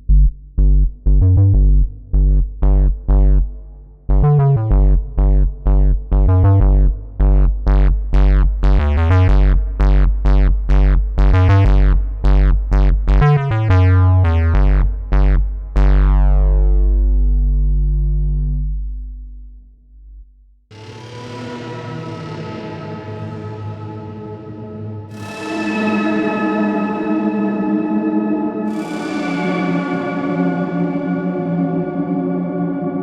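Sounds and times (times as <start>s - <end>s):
synthesizer bass plucks: 0.0s - 33.0s.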